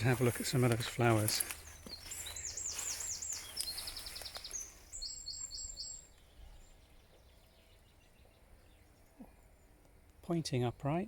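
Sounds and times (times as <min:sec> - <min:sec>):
songbird singing with trill: 0:00.8 - 0:10.9.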